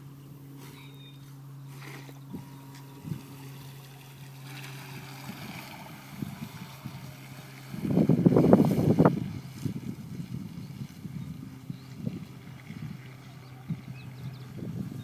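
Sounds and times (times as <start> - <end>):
model boat motor humming: 0.0 - 15.0
wind buffeting microphone: 2.2 - 15.0.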